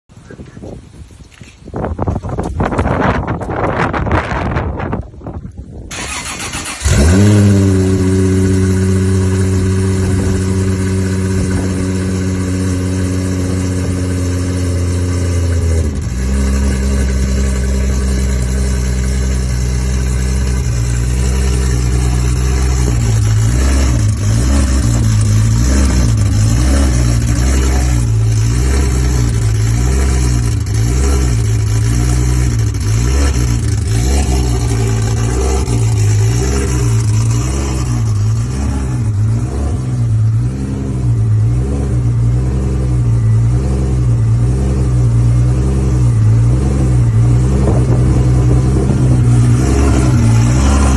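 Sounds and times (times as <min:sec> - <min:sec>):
car engine starting and idling: 0:02.2 - 0:50.9.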